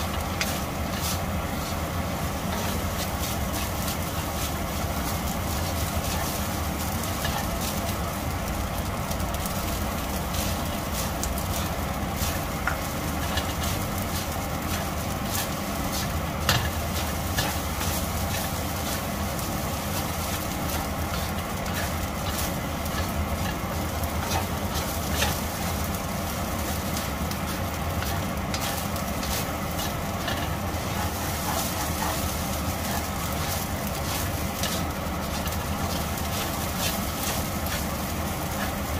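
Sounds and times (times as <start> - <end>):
spatula scraping in a wok: 0.0 - 38.9.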